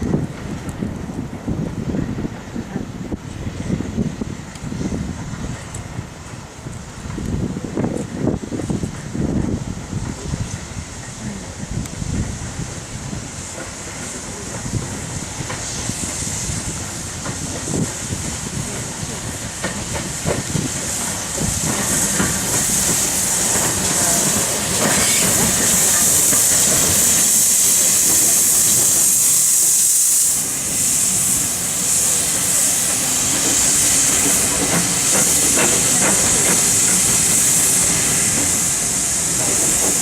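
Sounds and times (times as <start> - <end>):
steam locomotive hissing: 0.0 - 40.0
train rumbling and knocking: 0.0 - 40.0.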